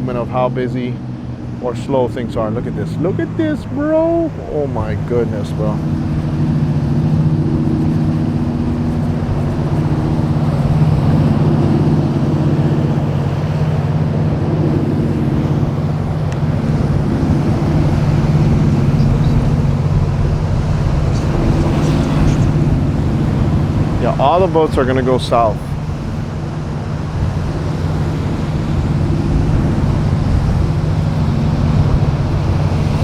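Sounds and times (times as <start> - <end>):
boat engines droning: 0.0 - 33.0.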